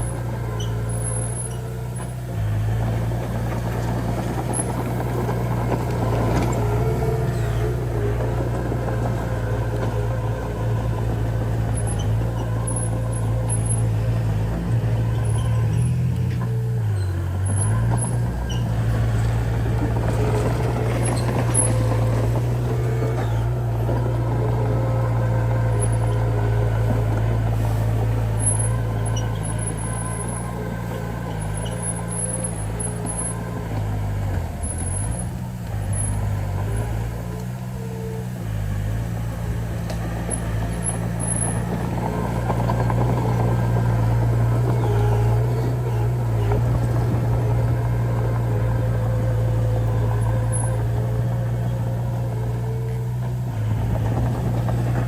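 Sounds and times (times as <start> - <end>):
diesel engine humming under load: 0.0 - 55.0.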